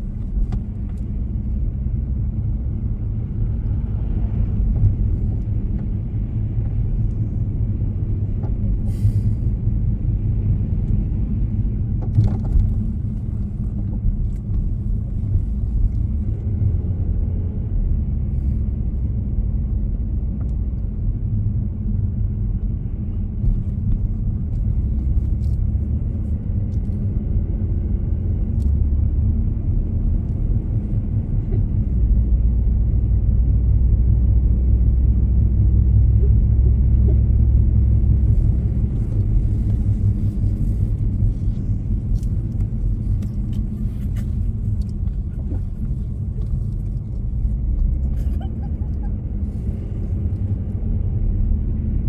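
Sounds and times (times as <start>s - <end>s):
car driving rumble: 0.0s - 52.0s.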